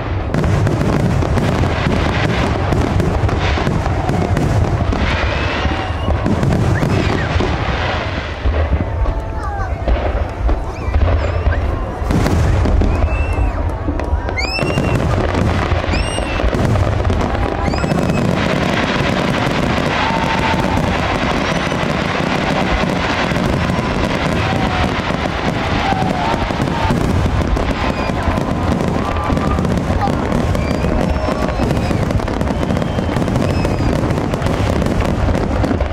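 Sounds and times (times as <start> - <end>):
crackling firework barrage: 0.0 - 35.9
whistling firework shells: 0.2 - 8.0, 10.1 - 35.9.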